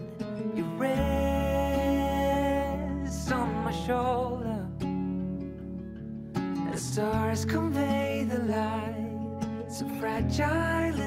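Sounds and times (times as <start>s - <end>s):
song with guitar accompaniment: 0.0s - 11.0s.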